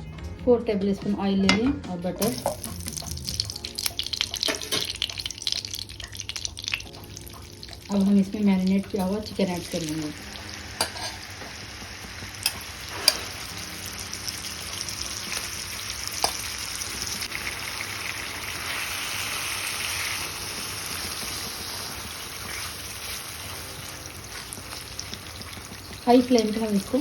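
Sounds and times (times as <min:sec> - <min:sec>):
chicken sizzling in a pan: 0:02.2 - 0:27.0.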